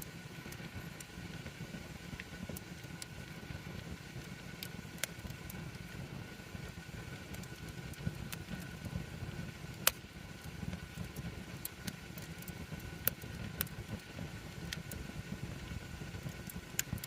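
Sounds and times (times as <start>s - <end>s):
campfire flames rumbling: 0.0s - 17.0s
wood crackling and popping: 0.0s - 17.0s.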